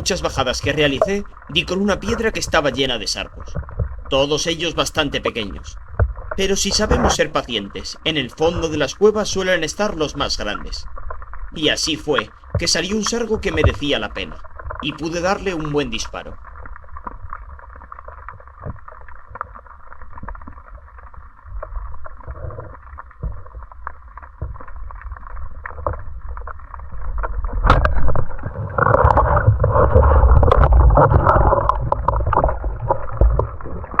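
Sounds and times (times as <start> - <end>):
muffled underwater water noise: 0.0 - 34.0
water churning: 0.0 - 34.0.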